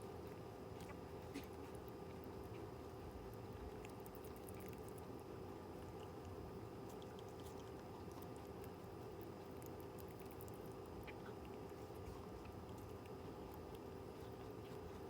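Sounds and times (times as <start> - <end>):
rabbit chewing with crunching: 0.0 - 15.0.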